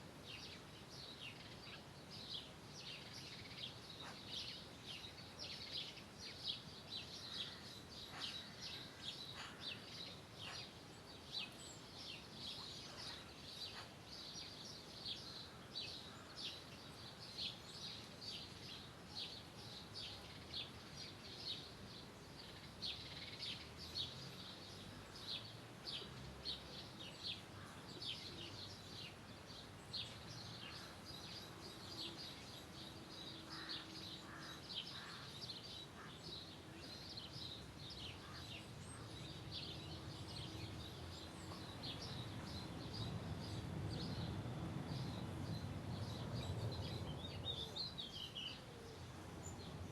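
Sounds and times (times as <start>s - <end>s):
faint background hiss: 0.0s - 49.9s.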